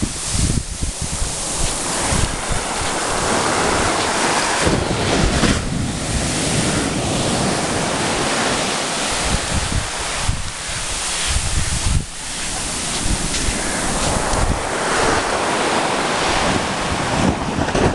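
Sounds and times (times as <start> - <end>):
waves breaking on beach: 0.0 - 17.9
wind rumbling on microphone: 0.0 - 17.9.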